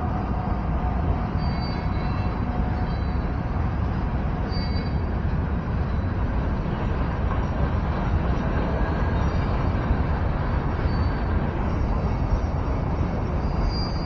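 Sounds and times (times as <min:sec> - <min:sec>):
freight train cars rumbling: 0:00.0 - 0:14.0.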